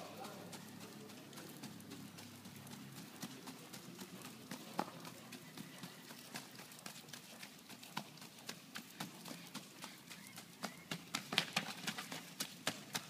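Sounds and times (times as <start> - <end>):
hoofbeats on dirt: 0.0 - 13.0.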